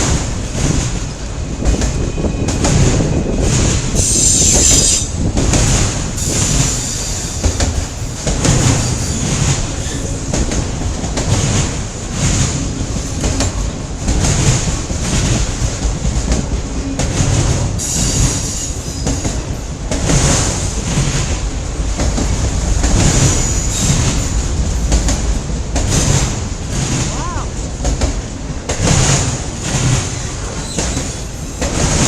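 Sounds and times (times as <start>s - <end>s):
freight train cars rumbling past: 0.0s - 32.0s
wheels clattering over rails: 0.0s - 32.0s.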